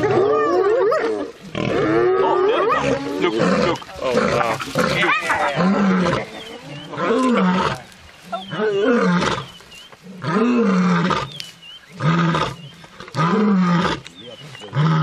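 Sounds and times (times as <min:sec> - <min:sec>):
lioness roaring: 0:00.0 - 0:14.1.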